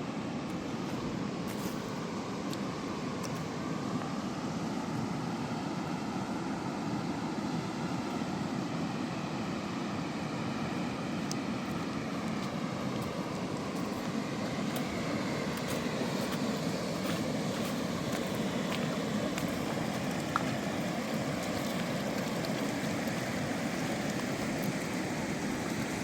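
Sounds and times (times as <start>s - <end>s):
mountain river rushing: 0.0s - 26.0s.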